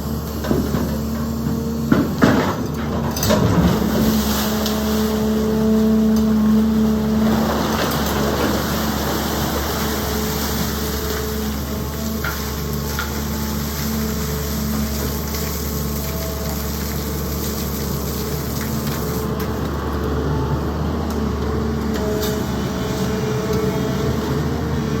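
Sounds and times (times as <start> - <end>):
excavator diesel engine droning: 0.0 - 25.0.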